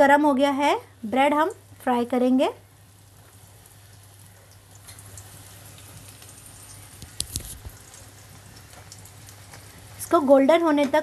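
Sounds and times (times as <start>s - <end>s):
bread sizzling in hot oil: 0.0s - 11.0s.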